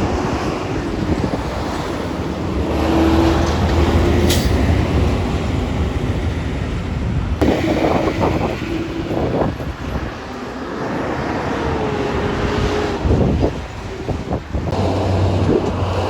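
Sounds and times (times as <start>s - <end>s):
heavy vehicle engine droning: 0.0s - 16.0s
road noise: 0.0s - 16.0s.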